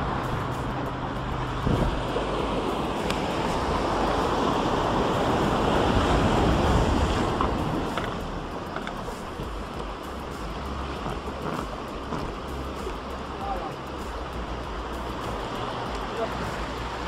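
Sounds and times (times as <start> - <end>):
sea waves breaking on shore: 0.0 - 17.0
wind buffeting microphone: 0.0 - 17.0.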